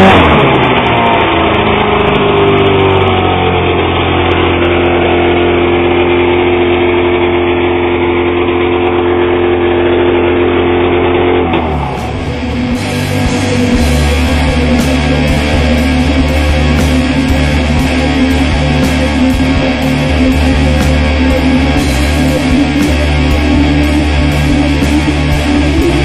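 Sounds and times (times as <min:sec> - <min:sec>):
heavy rock music: 0:00.0 - 0:26.0
snowmobile engine idling: 0:00.0 - 0:26.0.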